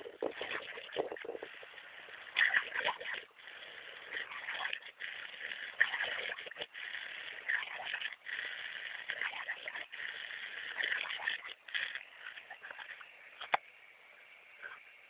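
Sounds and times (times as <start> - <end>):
water splashing and spraying: 0.0 - 13.3.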